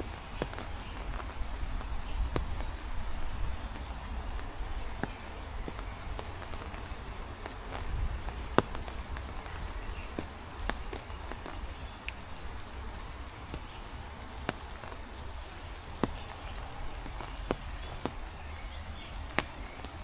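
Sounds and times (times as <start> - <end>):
heavy rain falling: 0.0 - 20.0
large raindrops ticking: 0.0 - 20.0
wind rumble on microphone: 0.0 - 20.0.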